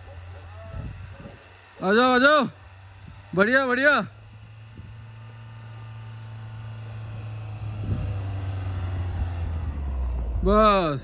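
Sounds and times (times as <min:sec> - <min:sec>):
diesel engine low hum: 0:00.0 - 0:11.0.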